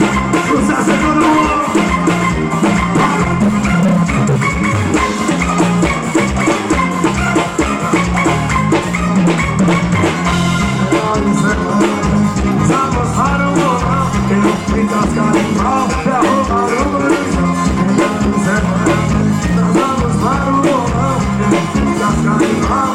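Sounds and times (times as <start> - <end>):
live band music: 0.0 - 22.9.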